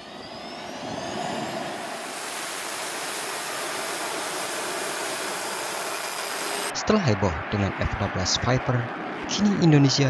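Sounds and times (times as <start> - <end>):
jet engine running: 0.0 - 10.0.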